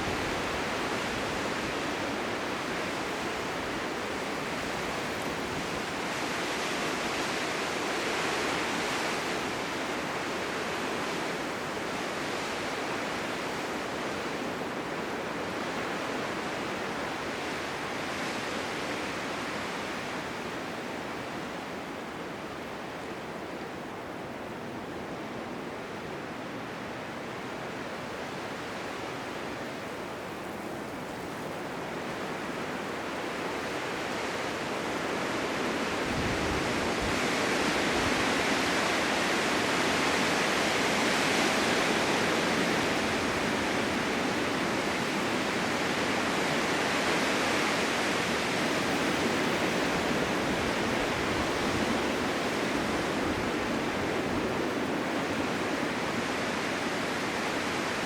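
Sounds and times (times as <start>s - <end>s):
blizzard wind rushing hiss: 0.0s - 58.0s.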